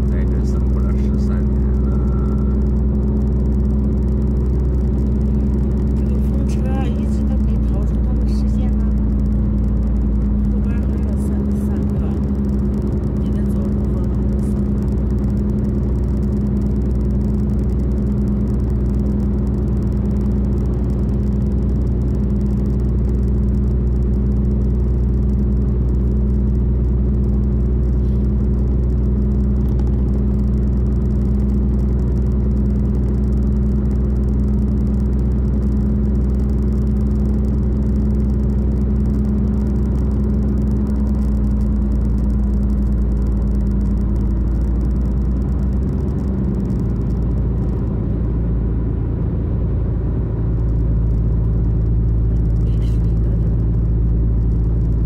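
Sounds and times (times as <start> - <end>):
car engine hum: 0.0 - 55.0
road noise rumble: 0.0 - 55.0.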